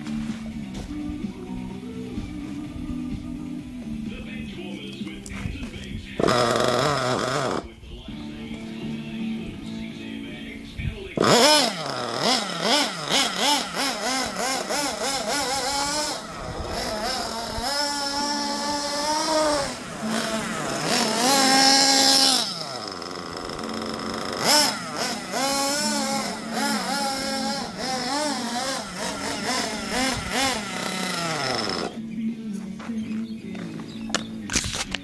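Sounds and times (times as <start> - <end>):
nitro engine revving: 0.0 - 32.2.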